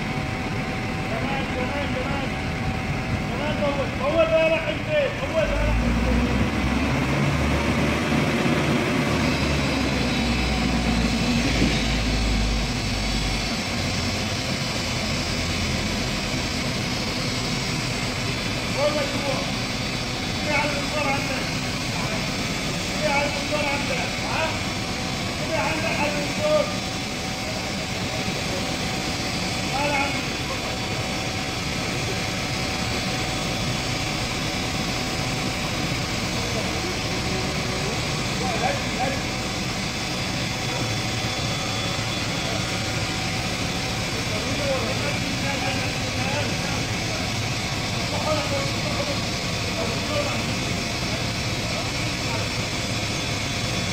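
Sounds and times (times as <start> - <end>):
diesel engine humming: 0.0 - 53.9.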